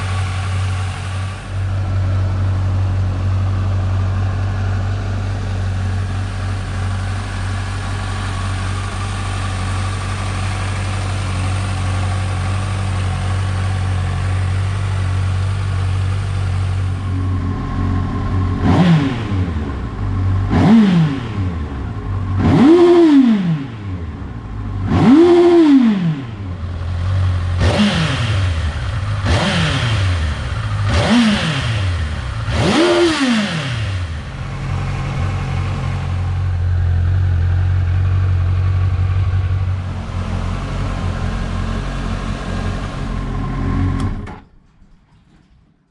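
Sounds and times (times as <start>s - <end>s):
motorcycle engine idling: 0.0s - 43.6s
motorcycle engine revving: 0.0s - 44.2s.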